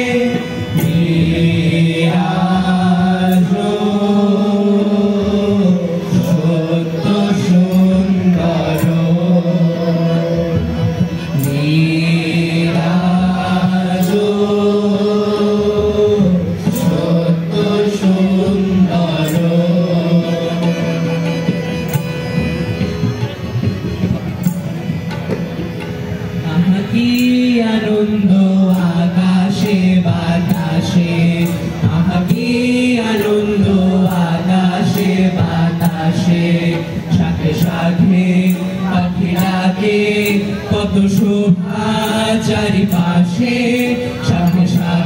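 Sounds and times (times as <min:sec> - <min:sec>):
boys singing in unison: 0:00.0 - 0:21.6, 0:26.4 - 0:45.0.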